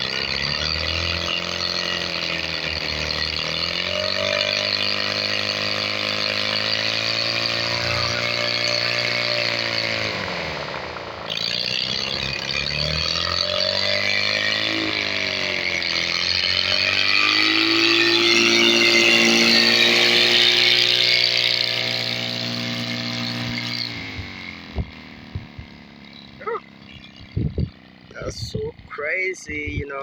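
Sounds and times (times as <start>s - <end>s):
two-cylinder engine revving: 0.0s - 30.0s.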